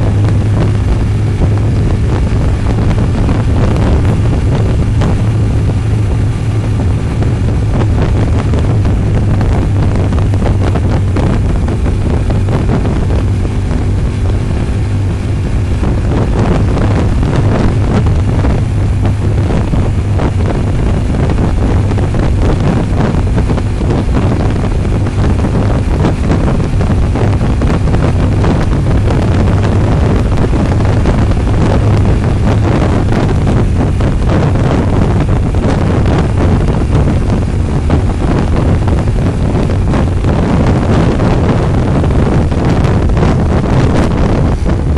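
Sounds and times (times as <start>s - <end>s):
motorcycle engine cruising: 0.0s - 44.9s
wind rush on microphone: 0.0s - 44.9s.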